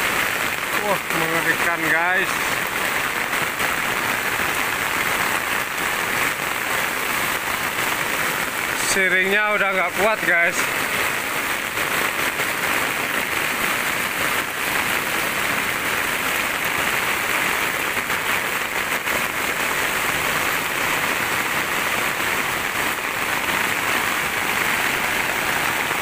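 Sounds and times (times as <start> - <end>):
floodwater rushing through ditch: 0.0 - 26.0
heavy rain pouring: 0.0 - 26.0.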